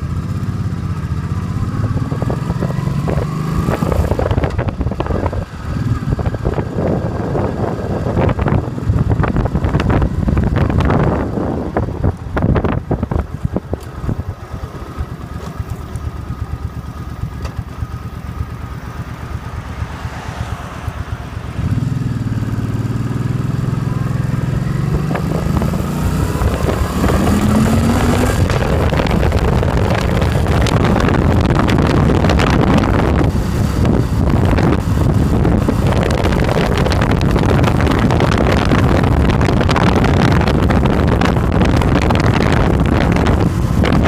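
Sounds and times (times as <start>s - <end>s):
motorcycle engine accelerating: 0.0s - 44.0s
wind noise on microphone: 1.4s - 19.8s, 21.0s - 44.0s.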